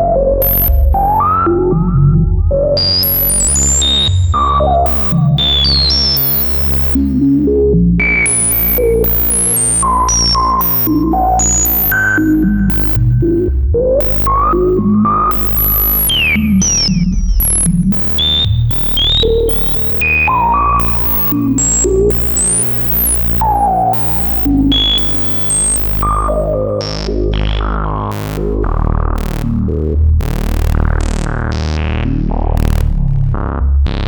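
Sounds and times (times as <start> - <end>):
synthesizer bass line: 0.0 - 34.0
sliding synthesizer lead melody: 3.0 - 7.6, 8.2 - 33.0.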